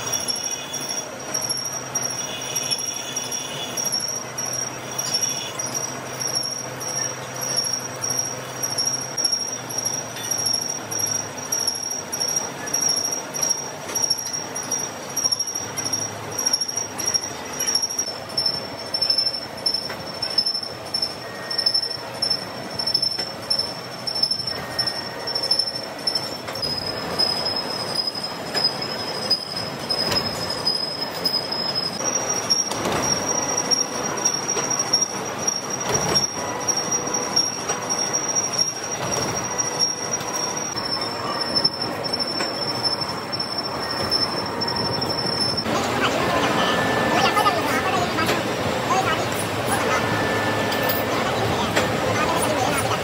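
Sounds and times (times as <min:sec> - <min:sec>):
high-pitched machine squeal: 0:00.0 - 0:53.0.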